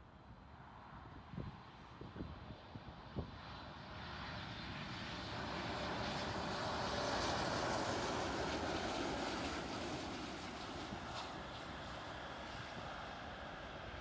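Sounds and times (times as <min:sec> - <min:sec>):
jet airliner engine roar: 0:00.1 - 0:14.0.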